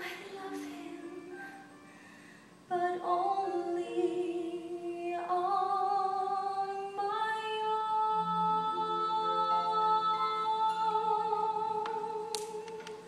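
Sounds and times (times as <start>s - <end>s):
woman singing a ballad: 0.0s - 1.7s, 2.7s - 13.0s.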